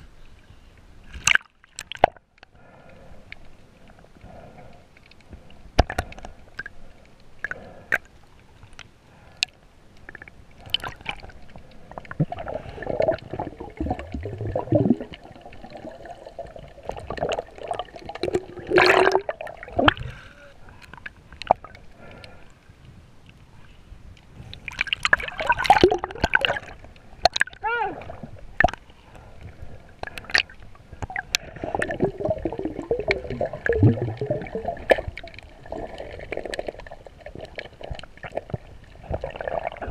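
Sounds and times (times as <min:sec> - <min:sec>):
underwater gurgling and sloshing: 0:00.0 - 0:39.9.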